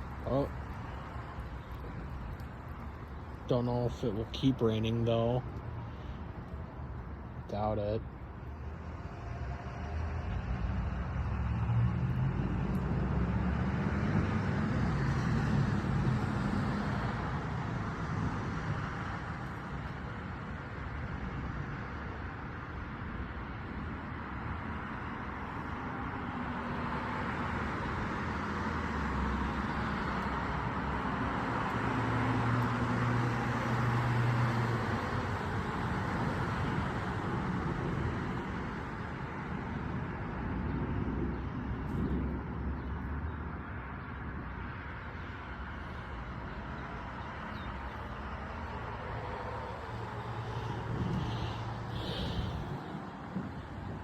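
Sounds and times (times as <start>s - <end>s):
vehicles going by: 0.0s - 54.0s.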